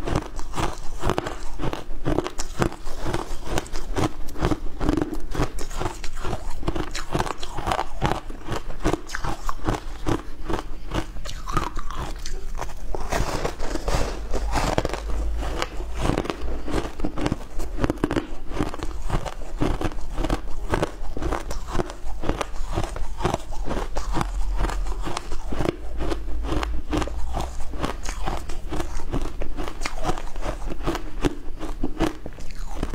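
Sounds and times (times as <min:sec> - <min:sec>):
crunching and chewing shaved ice: 0:00.0 - 0:32.9.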